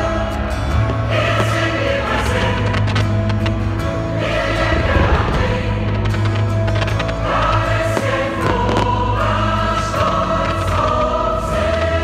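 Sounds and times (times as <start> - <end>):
choir singing long notes: 0.0 - 12.0
steady deep bass: 0.0 - 12.0.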